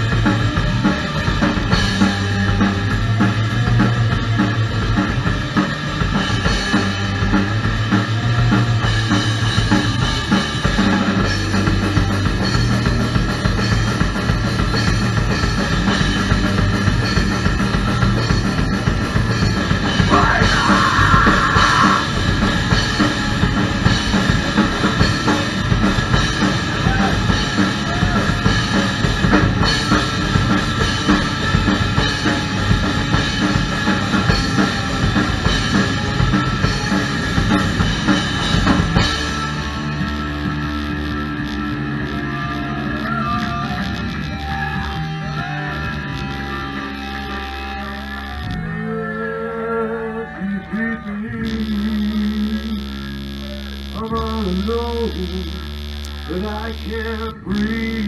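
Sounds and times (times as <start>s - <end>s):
bass drum and cymbals: 0.0s - 48.8s, 51.4s - 58.0s
electric guitars: 0.0s - 58.0s
live rock band playing: 0.0s - 58.0s.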